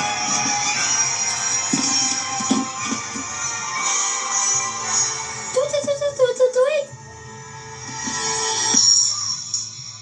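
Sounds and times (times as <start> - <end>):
dense steady music: 0.0 - 10.0.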